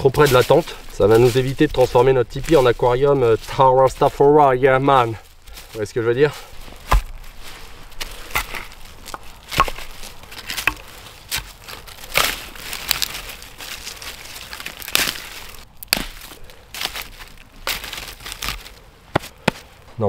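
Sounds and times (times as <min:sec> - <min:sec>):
twigs snapping: 0:00.0 - 0:19.7
crackling rustle: 0:00.0 - 0:20.0.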